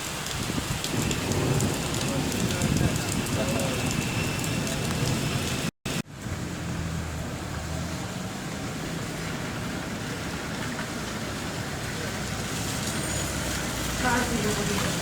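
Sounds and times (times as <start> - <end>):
motor vehicle humming: 1.3 - 15.0.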